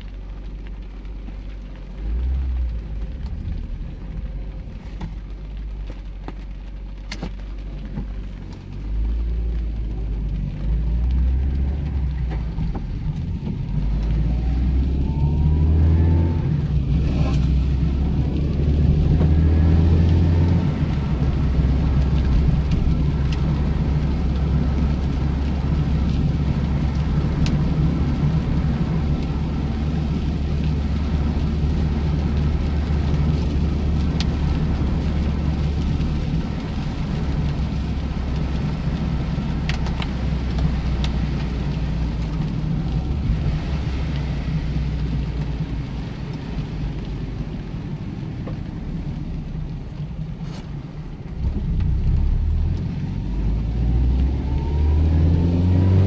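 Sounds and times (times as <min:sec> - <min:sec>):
car engine drone from inside cabin: 0:00.0 - 0:56.0
tyres on a wet road: 0:00.0 - 0:56.0.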